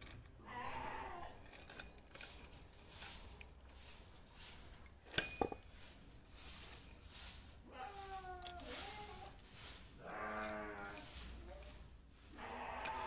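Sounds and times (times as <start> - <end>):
saw chain links clinking: 0.0 - 13.0.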